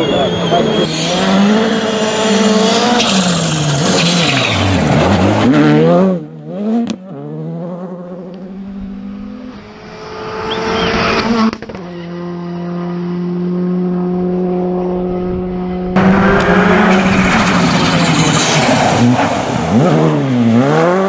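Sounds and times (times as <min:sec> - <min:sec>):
rally car engine at full power: 0:00.0 - 0:21.0.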